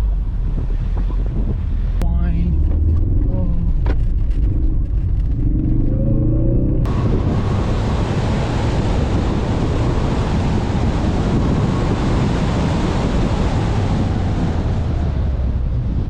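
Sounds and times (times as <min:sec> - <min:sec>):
car engine revving: 0:00.0 - 0:15.9
wind noise on microphone: 0:00.0 - 0:16.0.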